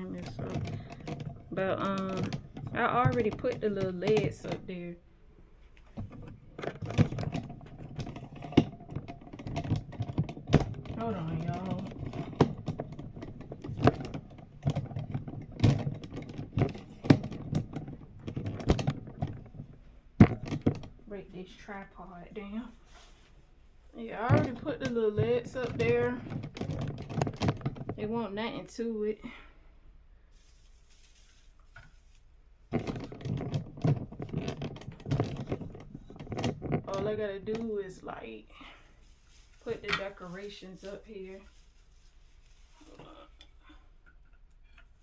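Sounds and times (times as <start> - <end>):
objects being handled: 0.0 - 28.5, 30.2 - 45.0.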